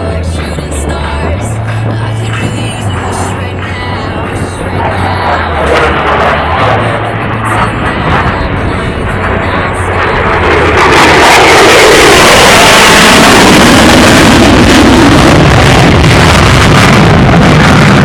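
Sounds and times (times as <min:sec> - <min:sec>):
fighter jets roaring past: 0:01.4 - 0:18.0.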